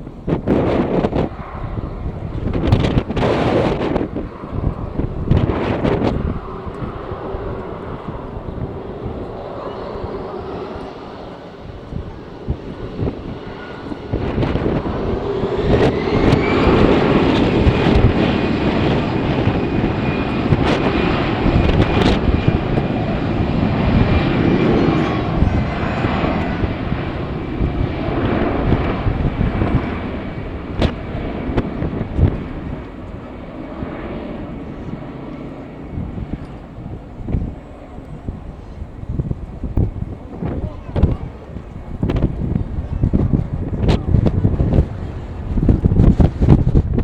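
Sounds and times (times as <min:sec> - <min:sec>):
jet engines whining and rumbling: 0:00.0 - 0:47.0
wind buffeting microphone: 0:00.0 - 0:47.0.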